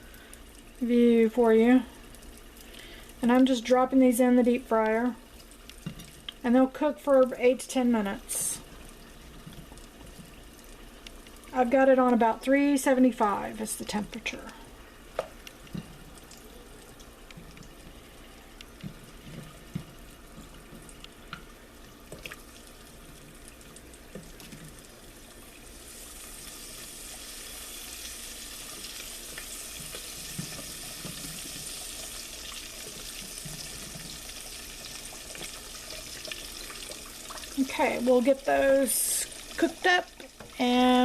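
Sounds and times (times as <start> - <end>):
food frying in deep fryer oil: 0.0 - 41.0.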